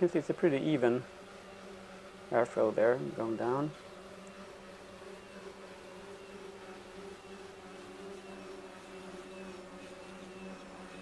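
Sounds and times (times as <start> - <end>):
propeller drone buzzing: 0.0 - 11.0.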